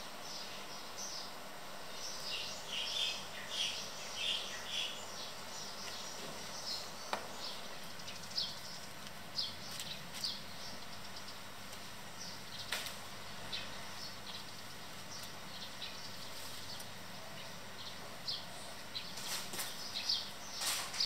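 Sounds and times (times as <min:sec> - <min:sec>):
birds chirping: 0:00.0 - 0:21.0
outdoor background hiss: 0:00.0 - 0:21.0.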